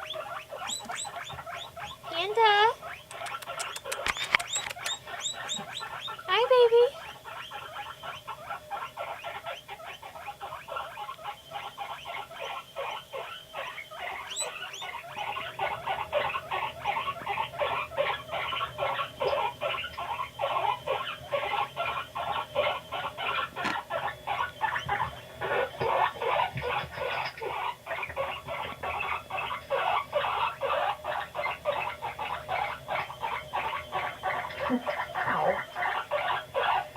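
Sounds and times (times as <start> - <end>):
guinea pig squeaking: 0.0 - 36.9.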